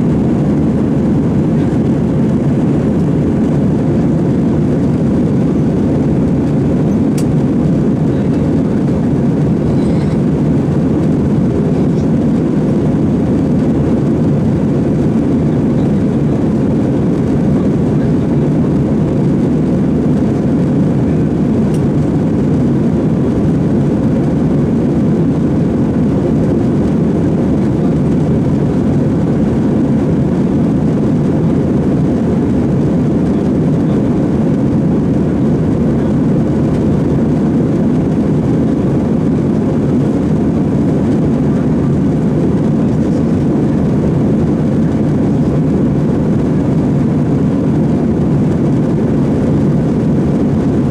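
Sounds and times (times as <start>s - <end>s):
jet airliner cabin noise: 0.0s - 50.9s.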